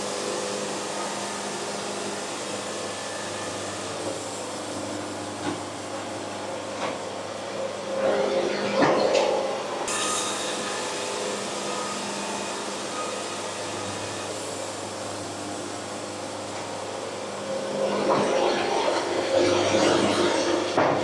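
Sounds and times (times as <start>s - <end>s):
machine droning with hum and hiss: 0.0s - 21.0s.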